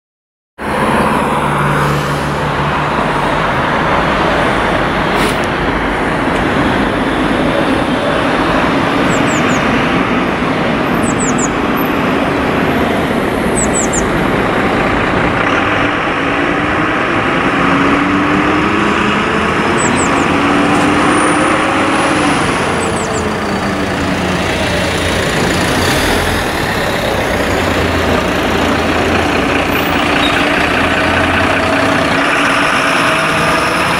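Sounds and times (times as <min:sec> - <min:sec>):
diesel engines pulling out: 0:00.6 - 0:33.9
road traffic noise: 0:00.6 - 0:33.9.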